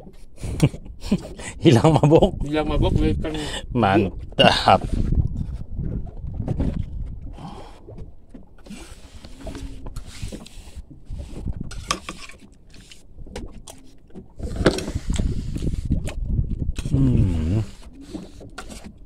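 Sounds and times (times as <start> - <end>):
boat engine low rumble: 0.0 - 19.0.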